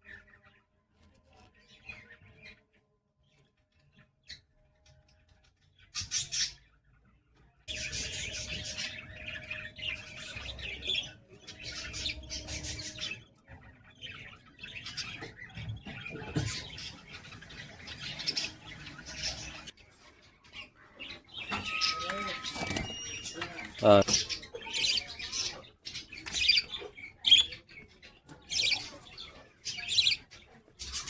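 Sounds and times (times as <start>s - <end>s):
budgerigars chirping and chattering: 0.0s - 31.0s.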